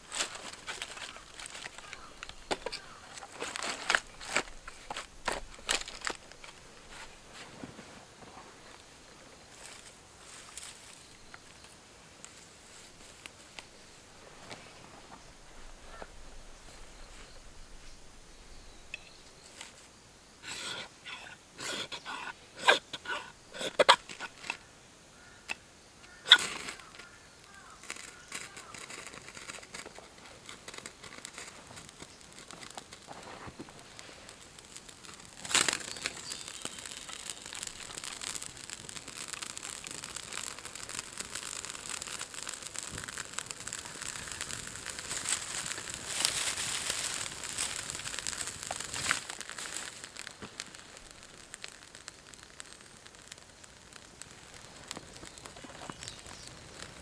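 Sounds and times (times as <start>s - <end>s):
coffee beans crackling in pan: 0.0s - 7.7s, 8.7s - 57.0s.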